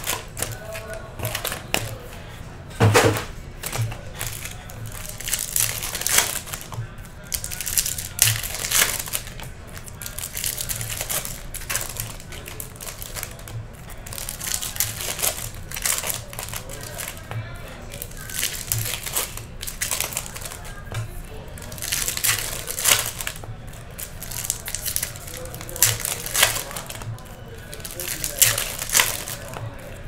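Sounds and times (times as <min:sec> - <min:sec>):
foil wrappers crinkling: 0:00.0 - 0:30.0.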